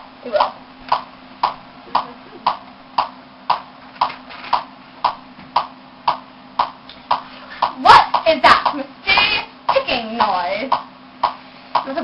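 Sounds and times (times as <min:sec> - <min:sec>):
faint steady hum: 0:00.0 - 0:12.0
sharp ticking clicks: 0:00.3 - 0:11.9.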